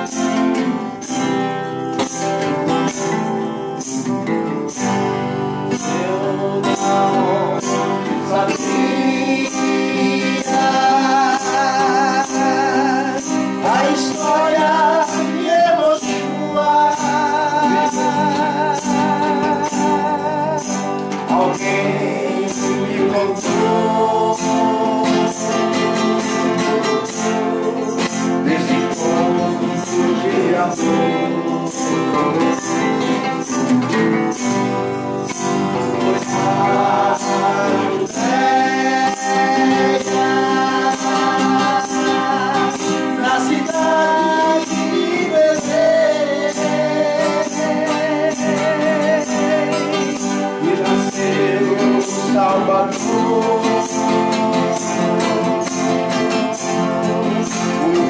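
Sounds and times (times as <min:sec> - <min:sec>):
acoustic guitars strummed: 0:00.0 - 0:58.0
man singing: 0:00.0 - 0:58.0.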